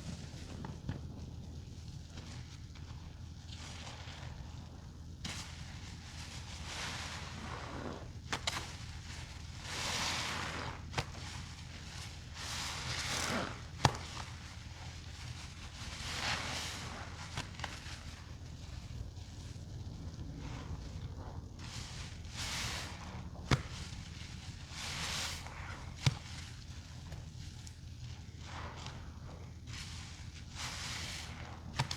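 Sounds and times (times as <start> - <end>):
steady low hum: 0.0 - 31.9
sponge squelching with water: 3.5 - 4.6, 5.3 - 31.9.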